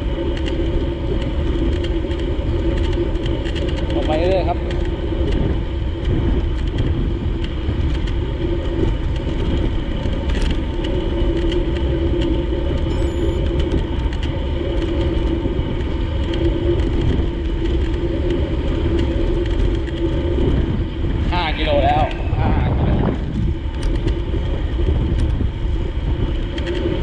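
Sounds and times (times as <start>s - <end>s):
low road hum: 0.0s - 27.0s
wind rumble on microphone: 0.0s - 27.0s.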